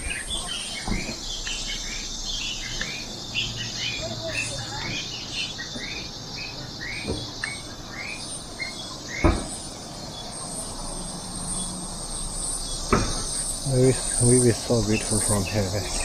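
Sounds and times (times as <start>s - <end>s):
bird chirping: 0.0s - 16.0s
insects chorus: 0.0s - 16.0s.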